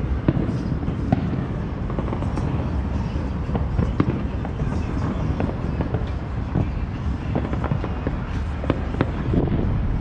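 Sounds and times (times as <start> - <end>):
continuous low rumble: 0.0 - 10.0
fireworks popping and banging: 0.0 - 10.0.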